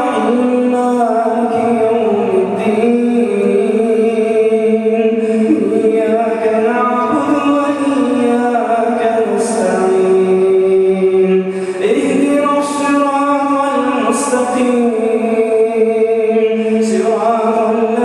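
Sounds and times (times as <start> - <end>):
man chanting melodic recitation: 0.0 - 18.0.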